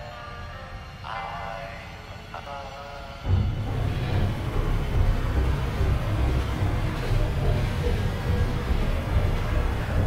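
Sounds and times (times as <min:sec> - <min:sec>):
low rumbling drone with hiss: 0:00.0 - 0:10.0.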